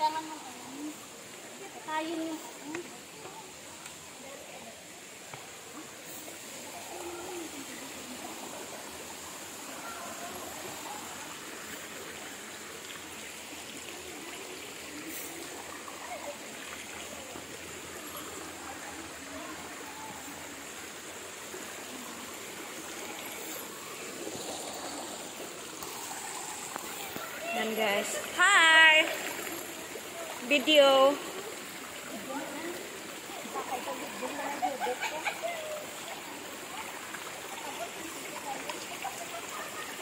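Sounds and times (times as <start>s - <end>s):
faint voices: 0.0s - 40.0s
stream running over boulders: 0.0s - 40.0s.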